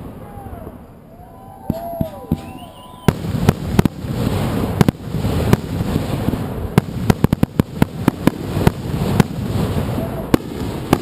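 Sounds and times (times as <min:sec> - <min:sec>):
fireworks crackling rumble: 0:00.0 - 0:11.0
fireworks sharp bangs: 0:01.6 - 0:11.0.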